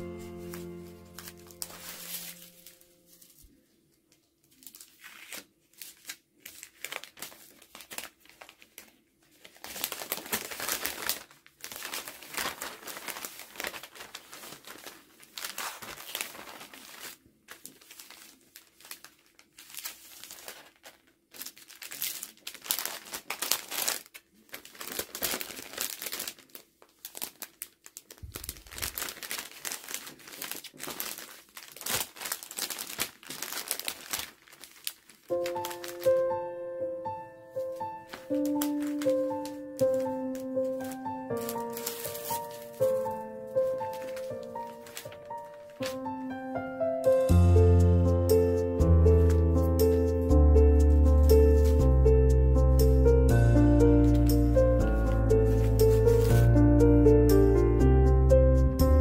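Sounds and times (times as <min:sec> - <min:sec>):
plastic bags crinkling: 0:00.1 - 0:36.6, 0:37.5 - 0:47.3, 0:49.0 - 0:50.3, 0:53.6 - 0:56.7.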